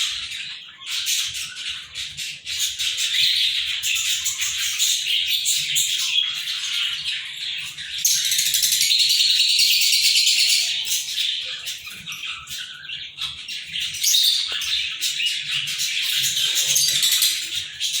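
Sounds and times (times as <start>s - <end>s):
parakeets chattering: 0.0s - 18.0s.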